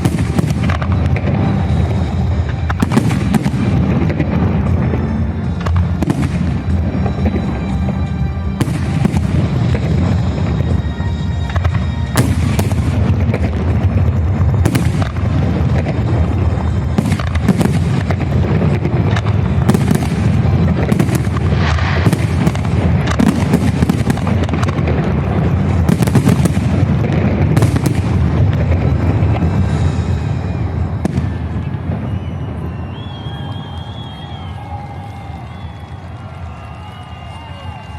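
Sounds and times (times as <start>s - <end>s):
booming rumble: 0.0s - 34.1s
firework bangs: 0.0s - 37.9s.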